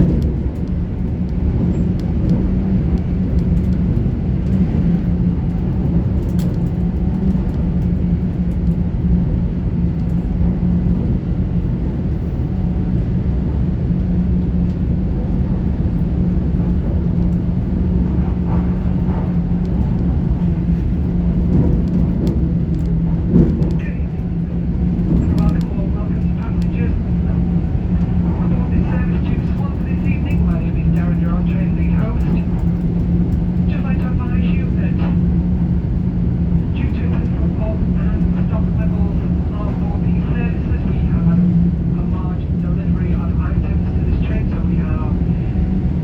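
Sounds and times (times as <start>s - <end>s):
constant low hum: 0.0s - 46.0s
train wheels rumbling on track: 0.0s - 46.0s.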